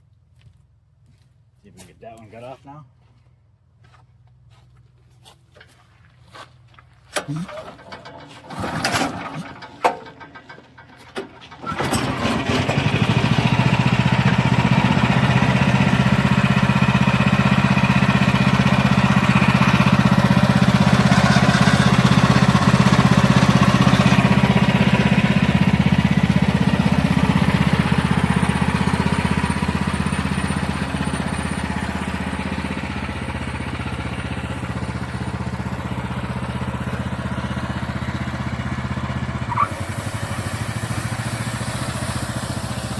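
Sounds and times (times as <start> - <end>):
sawmill gasoline engine running: 7.2 - 42.9.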